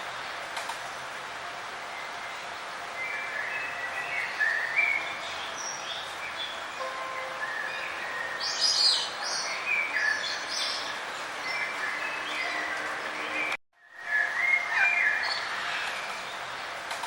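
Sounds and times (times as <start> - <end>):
songbirds chirping and warbling: 0.0 - 17.0
steady background hiss: 0.0 - 17.0.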